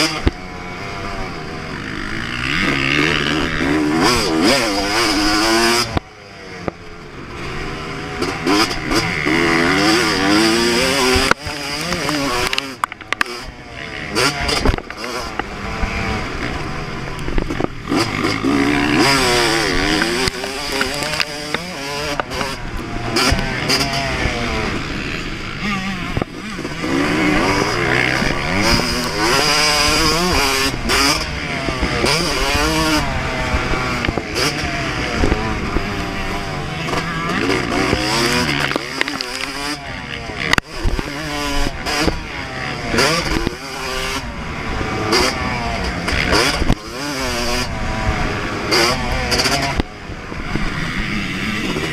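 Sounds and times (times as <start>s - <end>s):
motocross engine revving: 0.0s - 51.9s.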